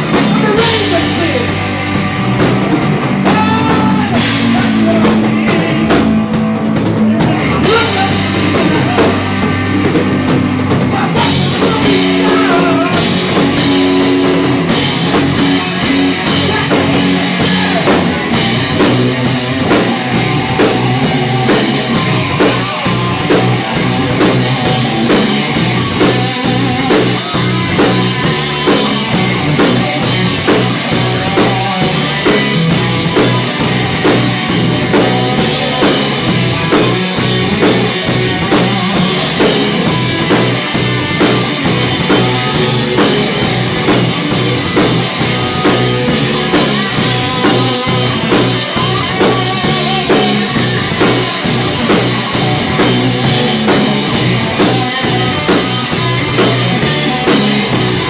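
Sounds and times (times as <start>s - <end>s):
bass guitar: 0.0s - 58.0s
drum kit steady beat: 0.0s - 58.0s
electric guitar: 0.0s - 58.0s.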